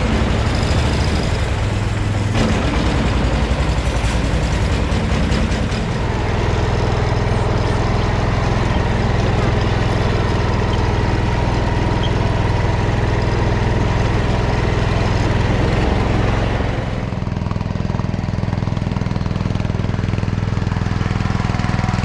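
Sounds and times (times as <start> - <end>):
garden tractor engine running: 0.0 - 22.0.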